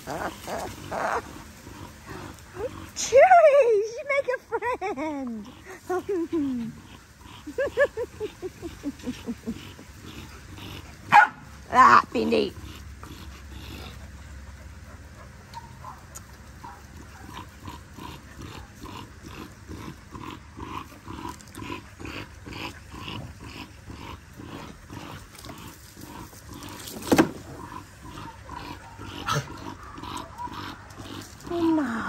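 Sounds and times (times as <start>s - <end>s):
dogs play-growling: 0.0s - 32.0s.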